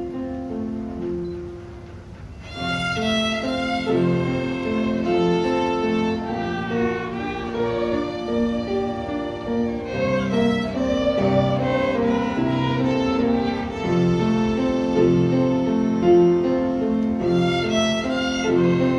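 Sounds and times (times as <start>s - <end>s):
violin melody: 2.3s - 18.9s.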